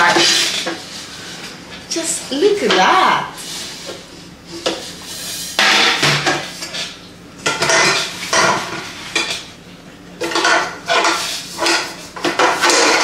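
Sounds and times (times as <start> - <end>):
metal pots clanking and scraping: 0.0 - 1.8, 2.6 - 9.6, 10.2 - 13.0.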